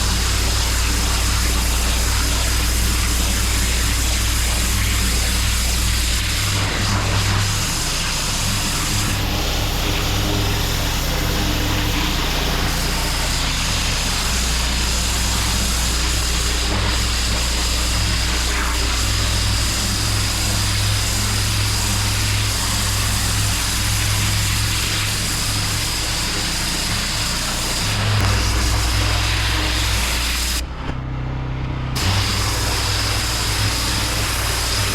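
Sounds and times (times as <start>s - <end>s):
water jet hissing on paving: 0.0s - 30.6s, 32.0s - 34.9s
pressure washer engine hum: 0.0s - 34.9s.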